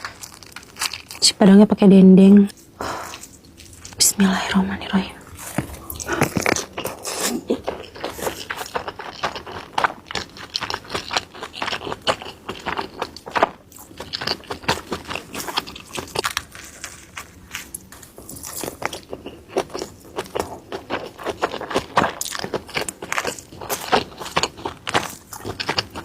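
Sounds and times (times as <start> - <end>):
crunchy bites and chewing: 0.0 - 1.2, 2.5 - 4.3, 5.2 - 26.0.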